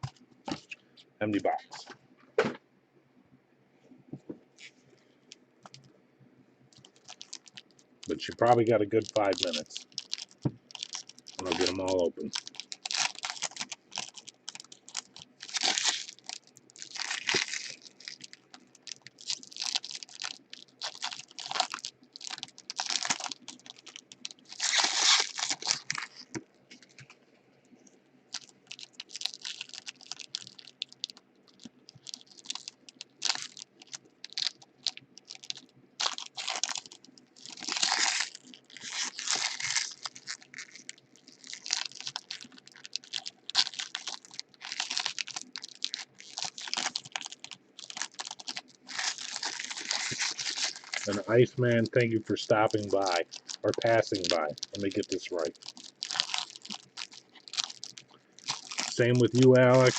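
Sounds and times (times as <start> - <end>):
faint steady hum: 0.0 - 59.9
foil packs tearing and crinkling: 6.8 - 27.0, 28.3 - 59.9.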